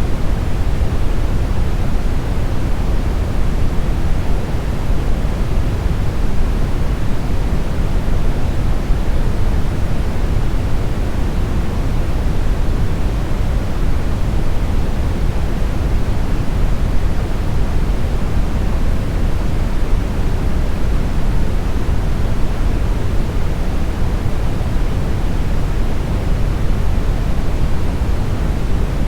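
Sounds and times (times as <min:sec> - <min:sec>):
brown noise hiss: 0:00.0 - 0:29.0.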